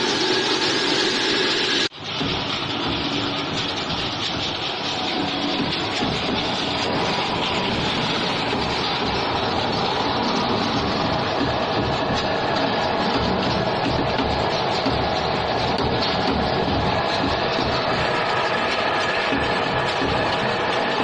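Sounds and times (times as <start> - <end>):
conveyor machinery rattling: 0.0 - 21.0.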